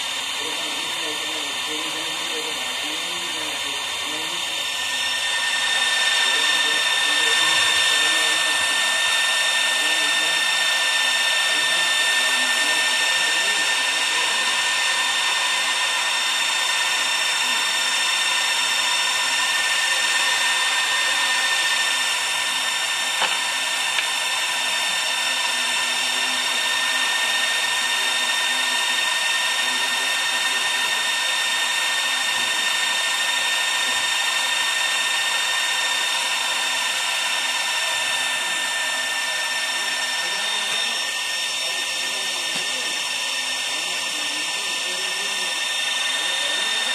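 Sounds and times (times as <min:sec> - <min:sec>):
cooling fans whirring: 0:00.0 - 0:46.9.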